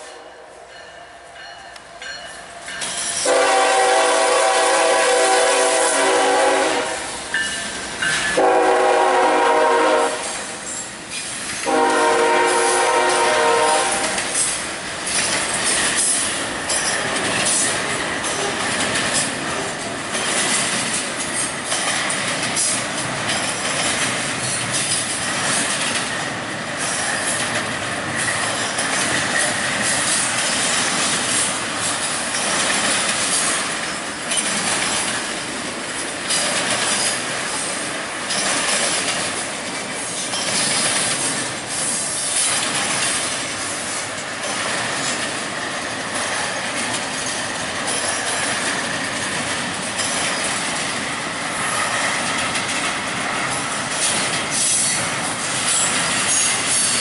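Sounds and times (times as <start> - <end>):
train wheels clacking on rail joints: 1.4 - 57.0.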